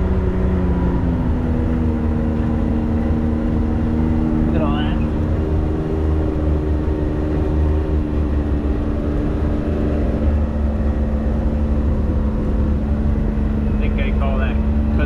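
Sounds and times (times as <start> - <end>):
engine running with deep rumble: 0.0 - 15.0.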